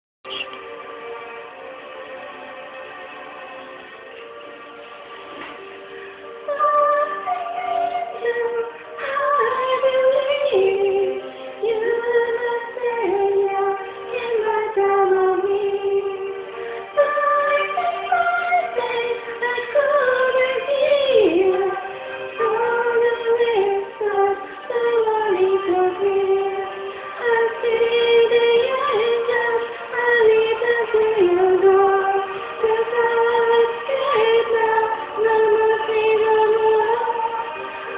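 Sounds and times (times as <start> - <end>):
woman singing: 6.4 - 37.9.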